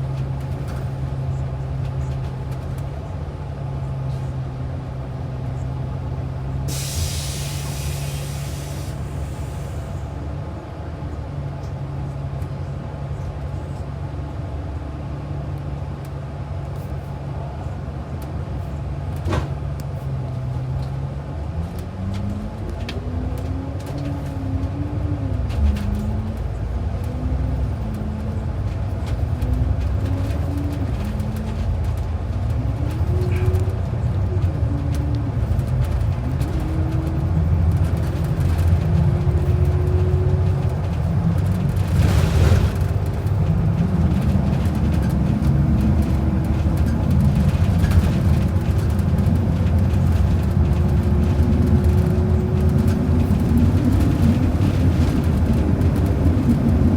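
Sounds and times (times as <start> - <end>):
bus engine accelerating: 0.0 - 56.9
low road rumble: 0.0 - 56.9.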